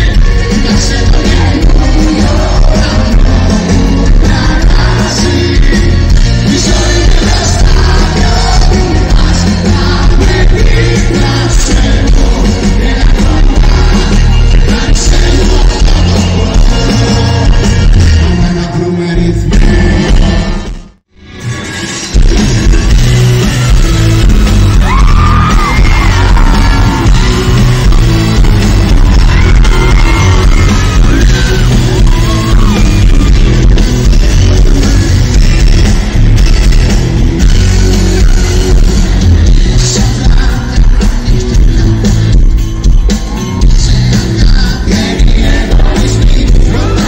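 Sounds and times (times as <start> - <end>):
heavy bass beat: 0.0 - 18.6, 22.2 - 47.0
person singing: 0.0 - 20.7, 22.8 - 47.0
live pop music: 0.0 - 47.0.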